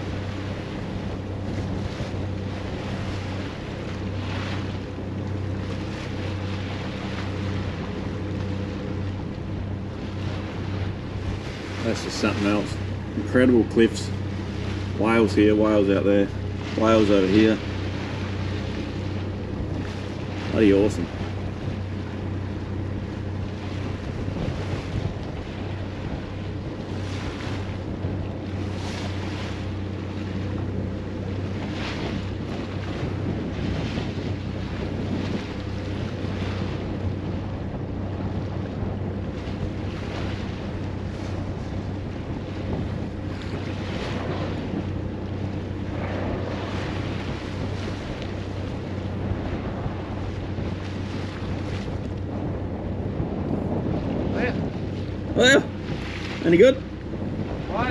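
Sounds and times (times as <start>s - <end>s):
boat engine drone: 0.0s - 57.9s
water rushing along hull: 0.0s - 57.9s
wind on microphone: 0.0s - 57.9s.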